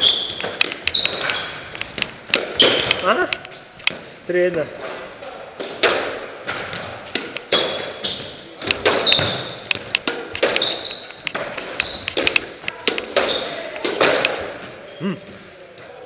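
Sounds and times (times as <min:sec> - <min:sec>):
squash ball hitting rackets and walls: 0:00.0 - 0:14.8
shoes squeaking on wooden floor: 0:00.0 - 0:15.5.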